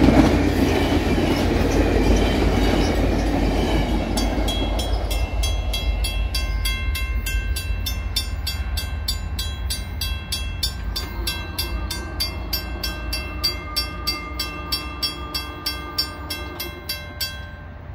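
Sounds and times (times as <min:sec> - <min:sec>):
train rumble: 0:00.0 - 0:17.9
level crossing warning bell: 0:00.4 - 0:17.9.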